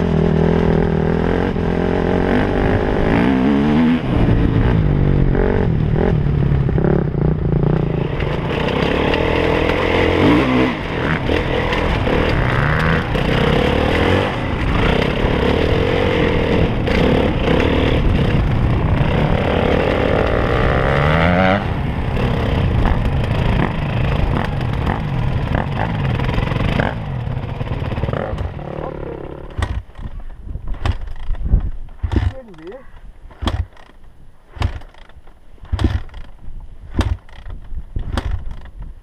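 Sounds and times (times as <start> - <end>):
dirt bike engine revving: 0.0 - 31.3, 32.0 - 36.3.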